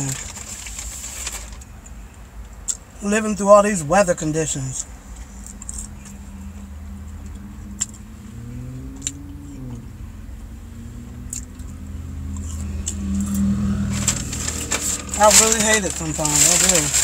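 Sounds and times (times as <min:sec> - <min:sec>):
low hum inside car: 0:00.0 - 0:17.0.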